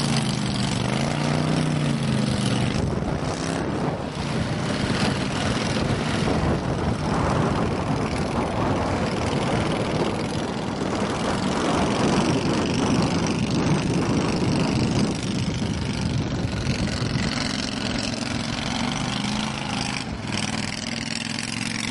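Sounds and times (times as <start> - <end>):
boat motor running under load: 0.0 - 21.9.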